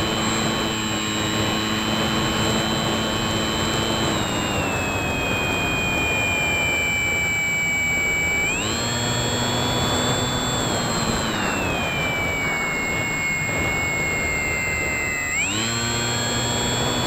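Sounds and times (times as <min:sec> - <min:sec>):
electric motor and propeller whine: 0:00.0 - 0:17.0
rush of wind: 0:00.0 - 0:17.0.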